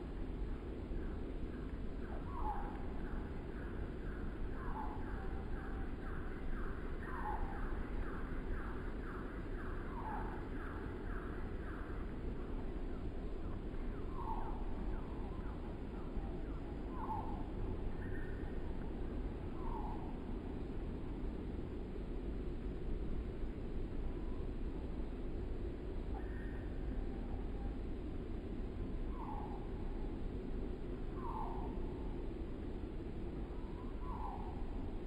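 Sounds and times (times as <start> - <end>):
low wind rumble: 0.0 - 35.0.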